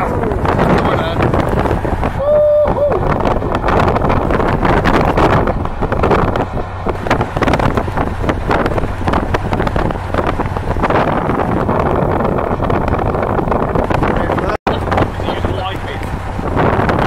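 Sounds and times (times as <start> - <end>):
boat engine humming: 0.0 - 17.0
wind buffeting microphone: 0.0 - 17.0.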